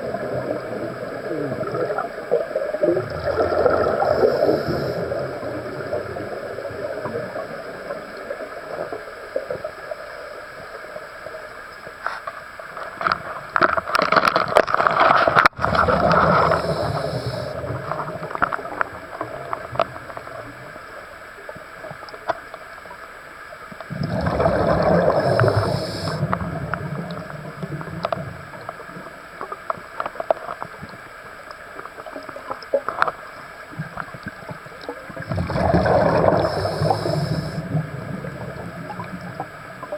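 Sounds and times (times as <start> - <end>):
underwater exhaled bubbles rumbling: 0.0 - 11.6, 14.3 - 22.2, 23.7 - 39.9
faint clicking and hissing: 0.0 - 24.1, 24.8 - 39.9.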